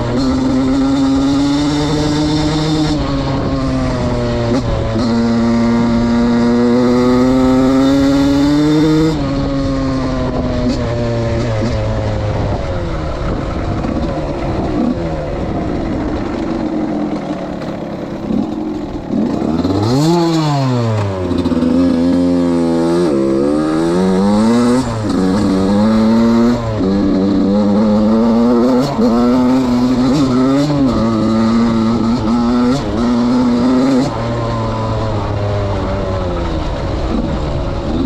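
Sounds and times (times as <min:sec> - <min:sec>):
two-stroke motorcycle engine revving: 0:00.0 - 0:38.0.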